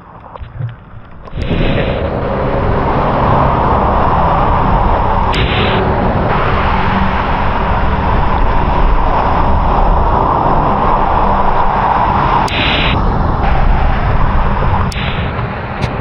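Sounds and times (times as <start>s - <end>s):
road traffic passing: 0.0s - 16.0s
wind rushing: 0.4s - 16.0s.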